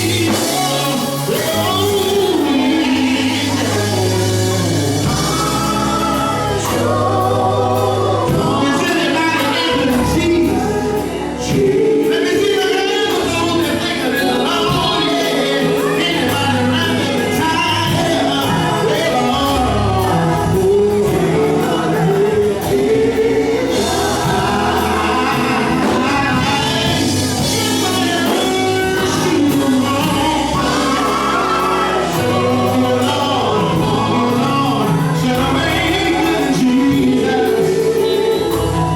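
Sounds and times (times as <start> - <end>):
drums: 0.0 - 38.9
gospel group singing in harmony: 0.0 - 38.9
sustained bass line: 0.0 - 38.9.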